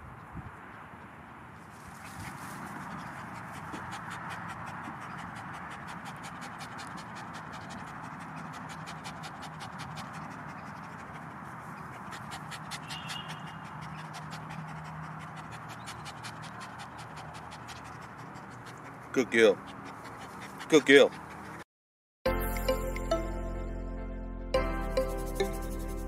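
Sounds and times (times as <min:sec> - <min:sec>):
dog panting: 0:00.7 - 0:21.6.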